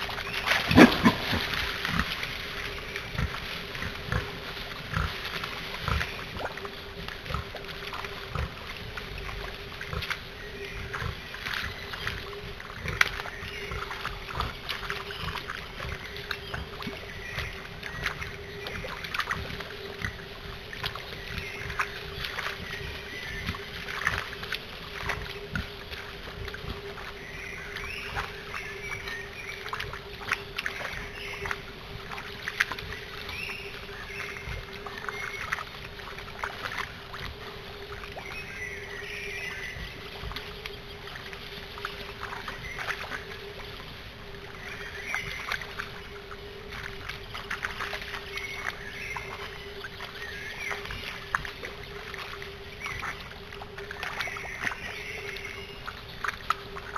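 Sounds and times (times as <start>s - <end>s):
steady hum: 0.0s - 56.9s
water splashing and sloshing: 0.0s - 56.9s.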